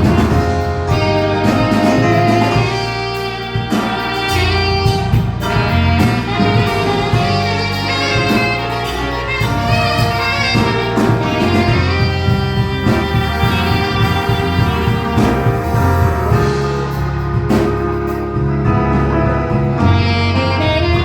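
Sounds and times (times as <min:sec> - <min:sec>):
instrumental music with beat: 0:00.0 - 0:21.0.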